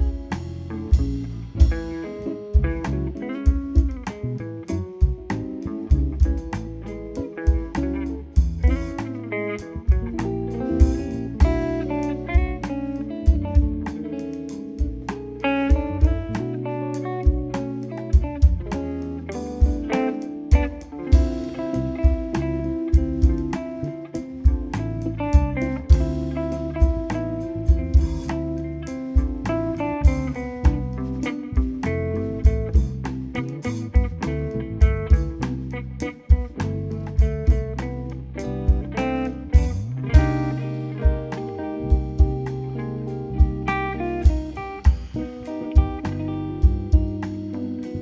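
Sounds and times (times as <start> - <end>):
bass: 0.0 - 48.0
drum kit: 0.0 - 48.0
guitar playing: 0.0 - 48.0.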